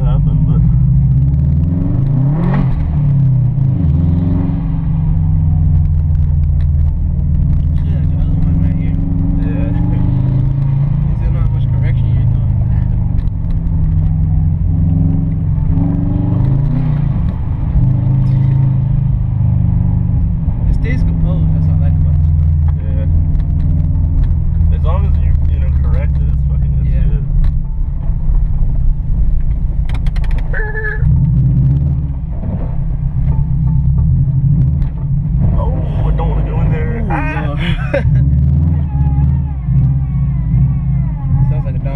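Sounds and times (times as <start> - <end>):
car engine running under load: 0.0 - 41.9.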